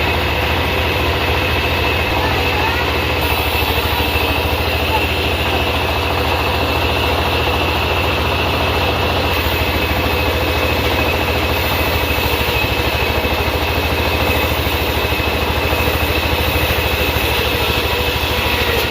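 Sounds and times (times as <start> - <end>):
sawmill engine running: 0.0 - 18.9
steady high whine: 0.0 - 18.9.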